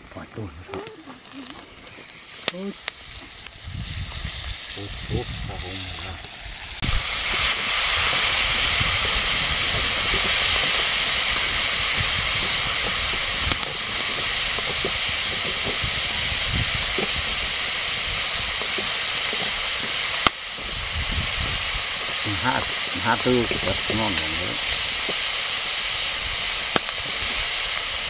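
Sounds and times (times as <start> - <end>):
bugs sizzling in a hot wok: 0.0 - 28.0.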